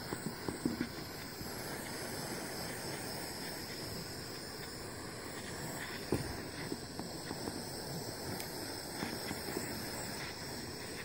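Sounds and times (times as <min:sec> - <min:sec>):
handheld torch hissing: 0:00.0 - 0:11.0.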